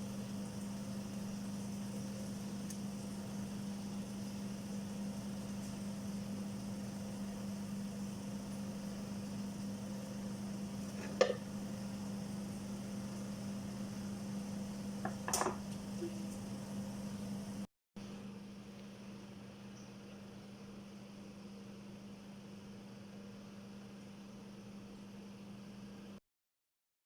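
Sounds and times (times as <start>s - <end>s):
oven humming: 0.0s - 26.2s.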